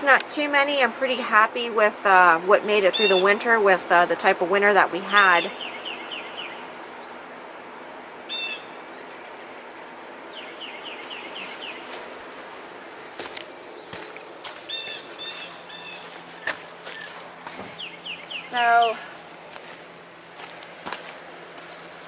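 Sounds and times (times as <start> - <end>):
outdoor background hiss: 0.0 - 22.0
songbirds chirping: 0.0 - 22.0.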